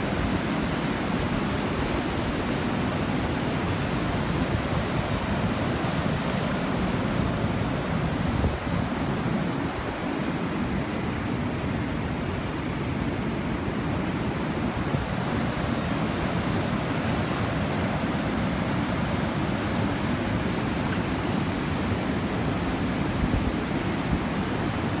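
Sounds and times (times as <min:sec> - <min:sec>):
river water rushing over dam: 0:00.0 - 0:25.0.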